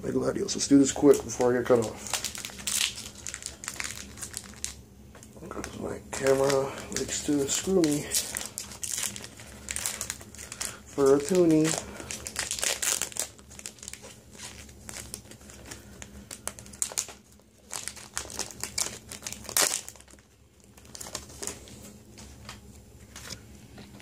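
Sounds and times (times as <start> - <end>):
foil wrapper crinkling and tearing: 0.5 - 22.6.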